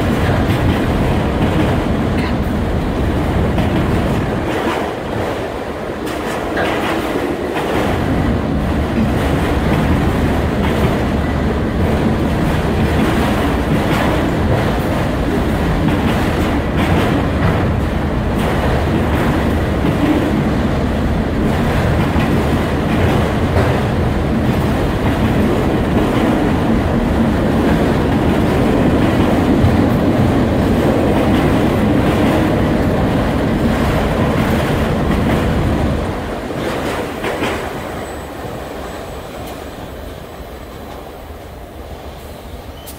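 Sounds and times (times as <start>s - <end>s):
train wheels clacking over rail joints: 0.0s - 2.6s, 3.4s - 20.7s, 21.3s - 38.2s.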